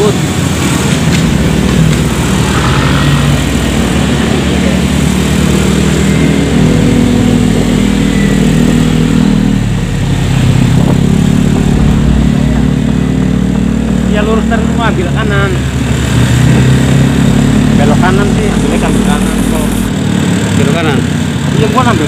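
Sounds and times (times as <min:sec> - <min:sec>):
motor scooter engines running: 0:00.0 - 0:22.0.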